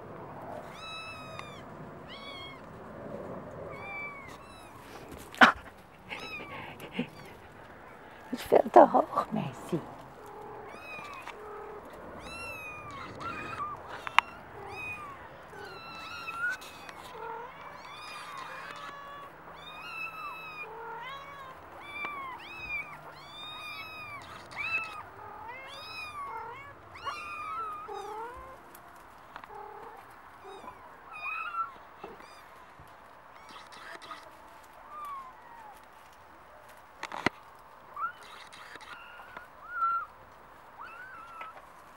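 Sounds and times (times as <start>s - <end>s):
kittens mewing: 0.5s - 2.8s, 3.6s - 36.1s, 37.0s - 40.2s.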